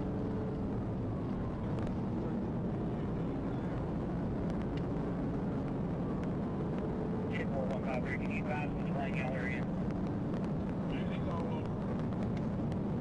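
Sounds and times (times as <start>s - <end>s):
vehicle running drone: 0.0s - 13.0s.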